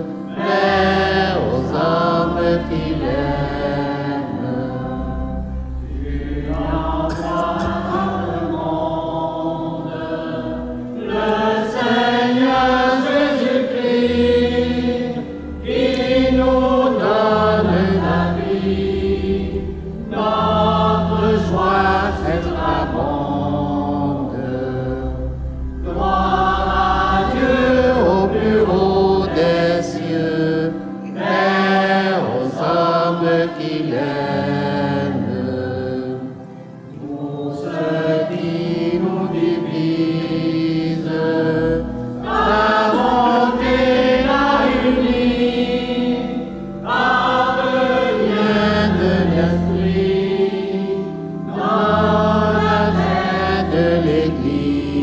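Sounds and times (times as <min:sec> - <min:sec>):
choir breaths: 0:00.0 - 0:55.0
choir singing: 0:00.0 - 0:55.0.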